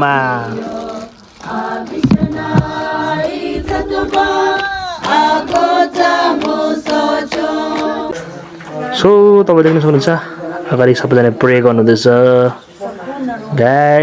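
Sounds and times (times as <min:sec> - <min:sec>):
group singing in unison: 0:00.0 - 0:11.3.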